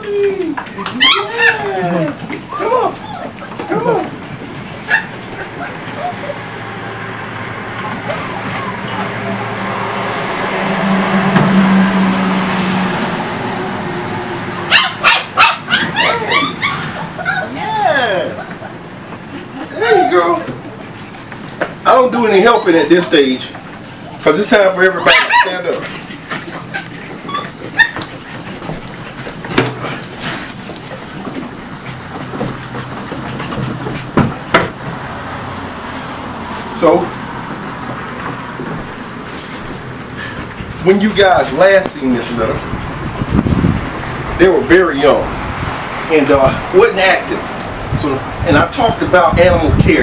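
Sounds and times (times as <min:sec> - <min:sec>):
puppies yapping: 0:00.0 - 0:48.4
steady low hum: 0:01.7 - 0:50.0.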